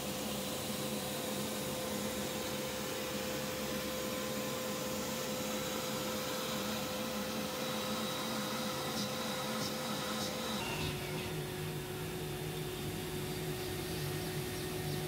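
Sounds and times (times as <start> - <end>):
machinery whirring hum: 0.0 - 15.0.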